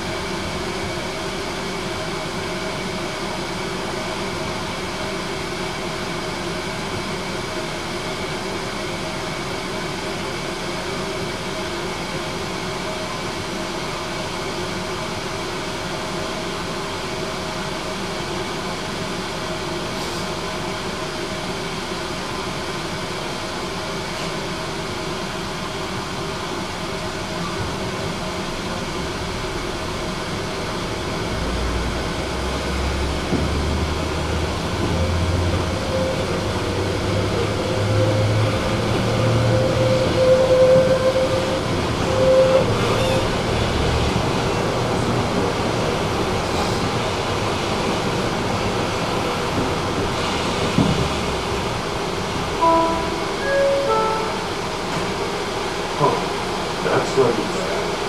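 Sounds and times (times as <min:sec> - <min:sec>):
tram interior hum: 0:00.0 - 0:58.0.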